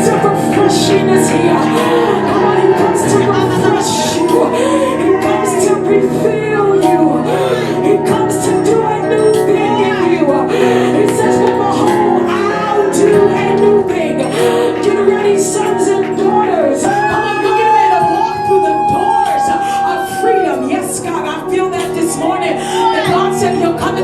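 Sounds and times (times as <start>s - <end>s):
held chords: 0.0s - 24.0s
person singing: 0.0s - 24.0s.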